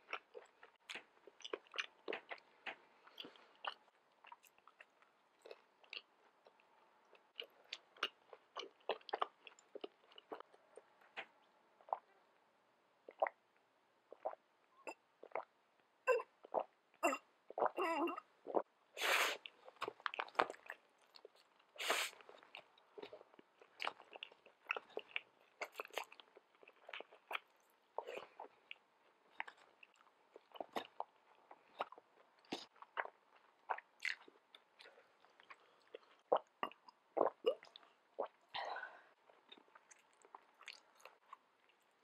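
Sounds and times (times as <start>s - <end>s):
person chewing noodles wetly: 0.0s - 12.0s, 16.1s - 18.7s, 19.3s - 38.5s, 39.2s - 42.0s.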